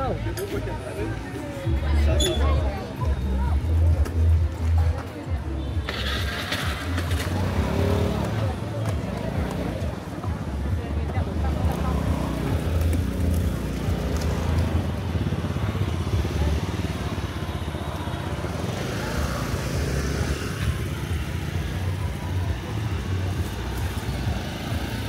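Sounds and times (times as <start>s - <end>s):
faint voices: 0.0s - 25.0s
motorbike engines running: 0.0s - 25.0s.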